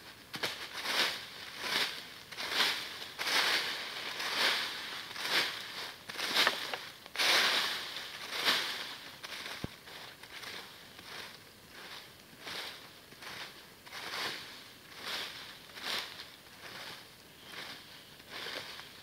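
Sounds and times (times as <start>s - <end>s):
dry leaves rustling swish: 0.3s - 19.0s.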